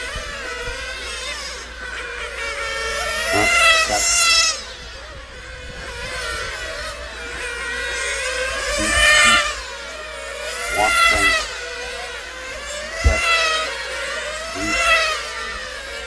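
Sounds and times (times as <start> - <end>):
rc car engines buzzing: 0.0 - 16.0.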